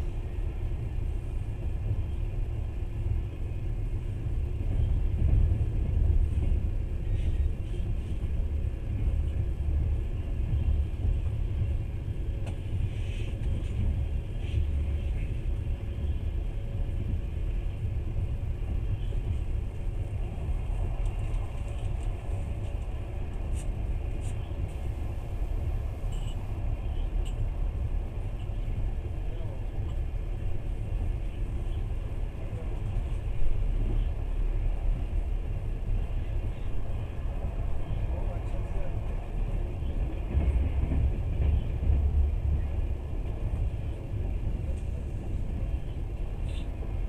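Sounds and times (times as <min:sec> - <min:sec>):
train wheels rumbling on track: 0:00.0 - 0:47.0.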